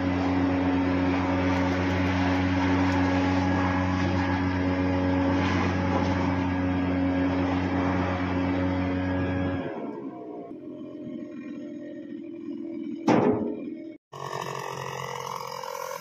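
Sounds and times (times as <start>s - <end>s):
large blower running: 0.0s - 12.4s, 14.1s - 16.0s.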